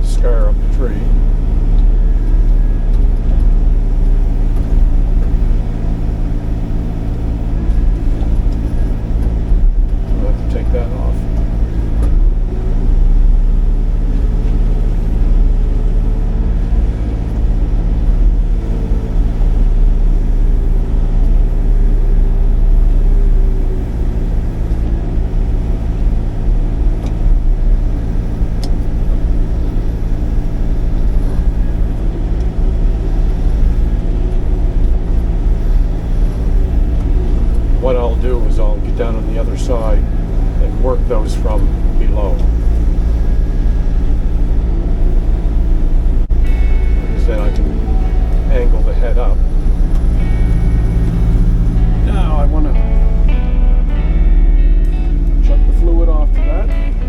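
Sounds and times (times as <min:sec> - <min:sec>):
diesel engine droning: 0:00.0 - 0:57.0
wavering machine whine: 0:00.0 - 0:57.0.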